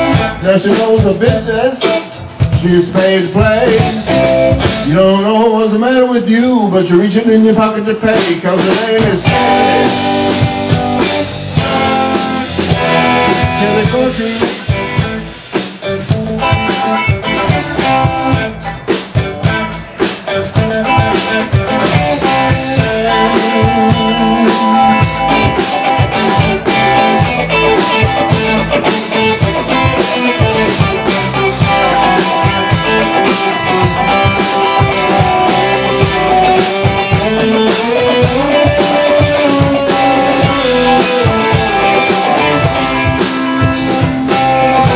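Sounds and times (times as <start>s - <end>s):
drum kit: 0.0s - 5.6s, 7.6s - 44.9s
electric guitars: 0.0s - 5.8s, 7.7s - 44.9s
bass guitar: 0.0s - 44.9s.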